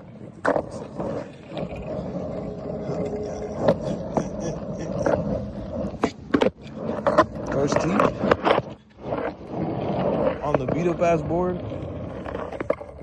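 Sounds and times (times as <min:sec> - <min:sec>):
skateboard clacking on ground: 0:00.0 - 0:13.0
skateboard wheels rumbling: 0:00.0 - 0:13.0.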